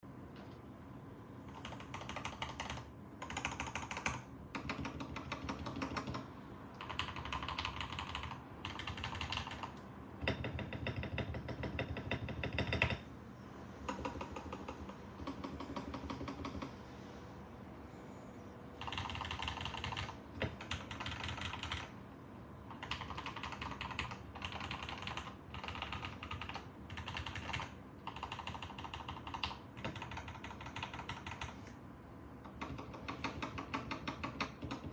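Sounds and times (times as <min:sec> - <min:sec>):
mechanical keyboard typing: 0:01.4 - 0:13.0, 0:13.9 - 0:16.8, 0:18.8 - 0:22.0, 0:22.7 - 0:31.8, 0:32.4 - 0:34.9.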